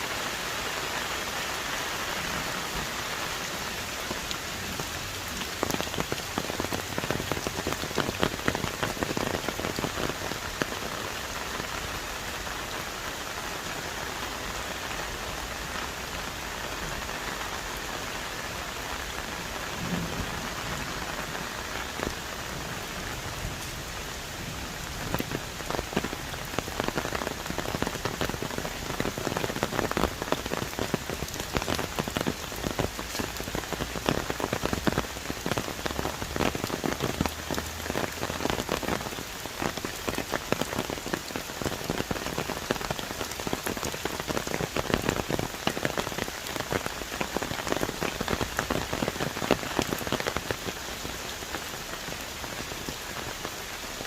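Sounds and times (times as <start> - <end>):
heavy rain on trees: 0.0 - 54.0.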